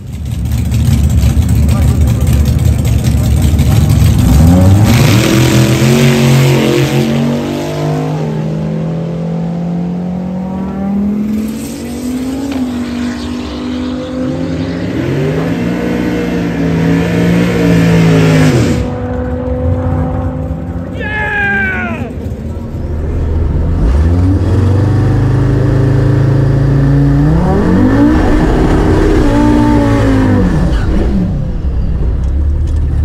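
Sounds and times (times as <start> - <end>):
engine revving at full throttle: 3.2 - 20.9, 22.7 - 31.6.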